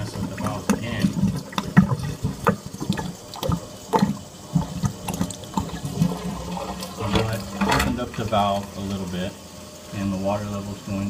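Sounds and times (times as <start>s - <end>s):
aquarium standpipe gurgling: 0.0s - 11.0s.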